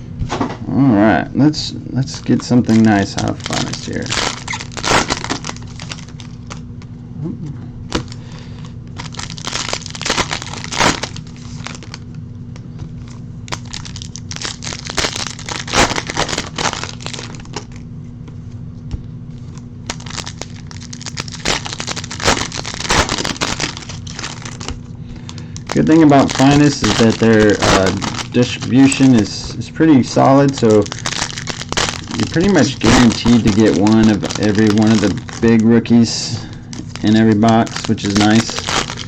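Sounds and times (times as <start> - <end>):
steady low hum: 0.0 - 39.0
packaging tearing and crinkling: 2.2 - 6.8, 7.9 - 8.3, 9.0 - 12.0, 13.0 - 17.8, 19.5 - 39.0.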